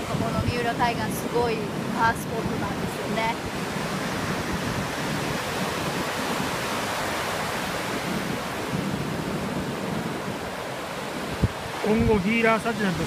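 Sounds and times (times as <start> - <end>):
ocean surf breaking: 0.0 - 13.0
wind gusting on microphone: 0.0 - 13.0.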